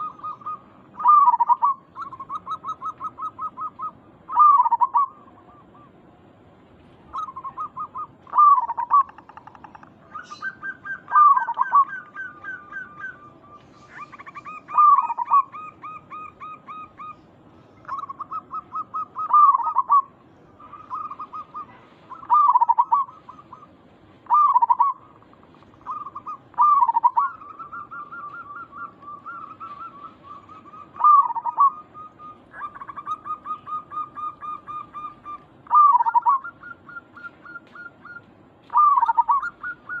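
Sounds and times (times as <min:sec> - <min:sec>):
doves cooing: 0:00.0 - 0:06.1, 0:07.0 - 0:40.0.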